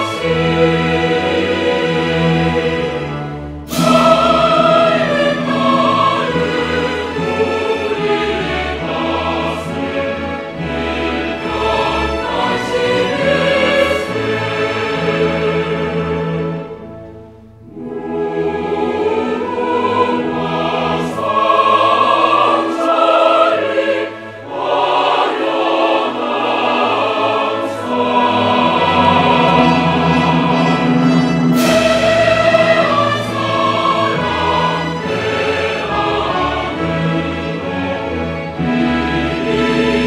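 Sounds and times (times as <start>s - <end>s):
choral singing: 0.0s - 40.0s
orchestra: 0.0s - 40.0s.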